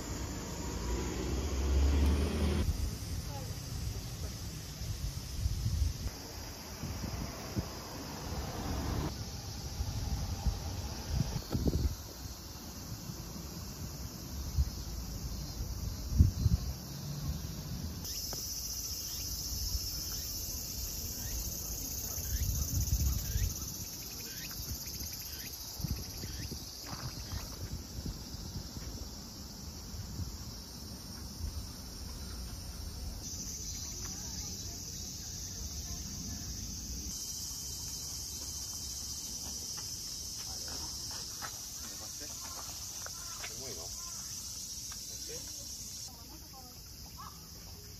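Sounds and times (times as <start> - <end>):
insects chorus calling: 0.0 - 47.9.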